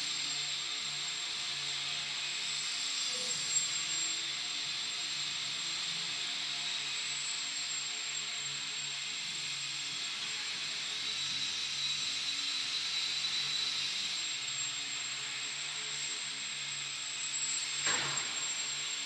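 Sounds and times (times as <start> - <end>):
model plane electric motor whine: 0.0 - 19.0.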